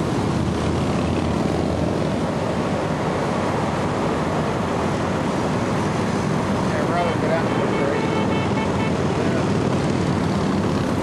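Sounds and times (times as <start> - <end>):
motorcycles riding past: 0.1 - 11.0.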